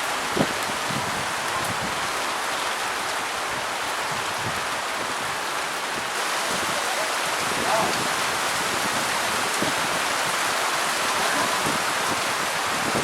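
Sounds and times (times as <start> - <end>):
water rushing and pattering: 0.0 - 13.0.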